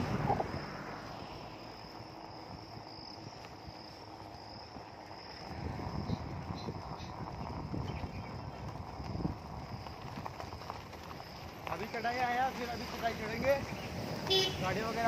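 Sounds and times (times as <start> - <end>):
bicycle rolling: 0.0 - 15.0
wind rumble: 0.0 - 15.0.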